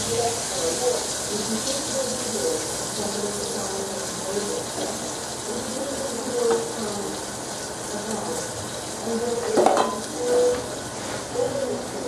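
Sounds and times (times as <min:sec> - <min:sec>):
food sizzling in frying pan: 0:00.0 - 0:12.0.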